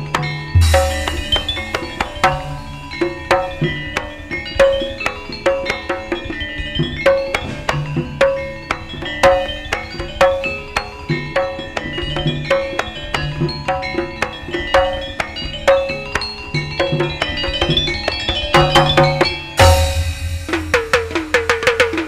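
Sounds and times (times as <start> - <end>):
bronze metallophones ringing: 0.0 - 22.0
hand drums: 0.0 - 22.0.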